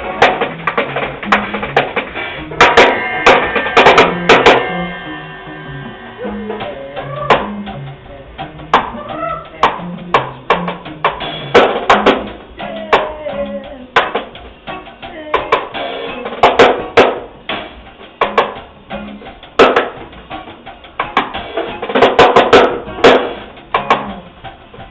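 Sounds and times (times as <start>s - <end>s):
band playing music: 0.0s - 24.9s
drum hits: 0.0s - 24.9s.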